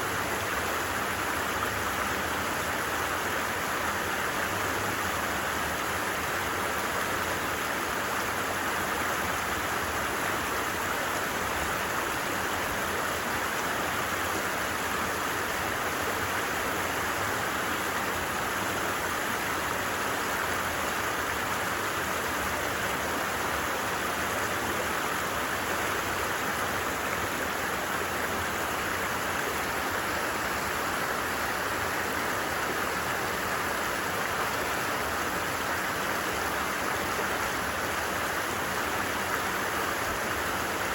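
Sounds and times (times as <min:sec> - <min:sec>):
stream water over rocks: 0:00.0 - 0:40.9.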